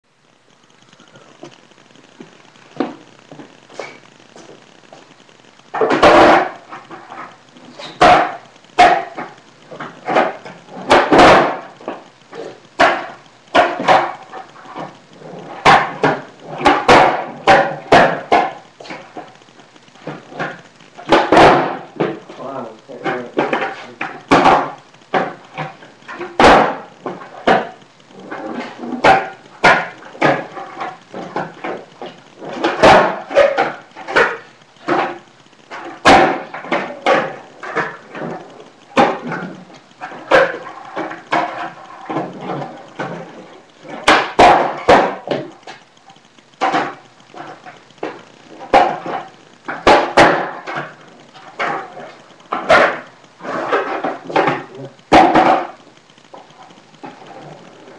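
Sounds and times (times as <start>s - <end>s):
skateboard clattering on concrete: 5.7s - 19.3s, 20.0s - 22.4s, 23.0s - 45.8s, 46.6s - 57.9s.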